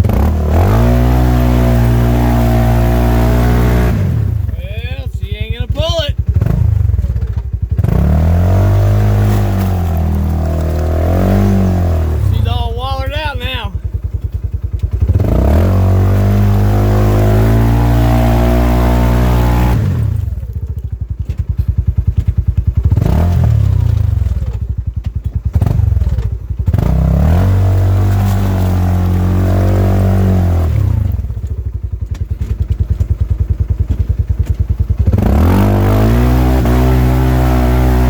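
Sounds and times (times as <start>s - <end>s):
engine revving and idling: 0.0s - 38.0s.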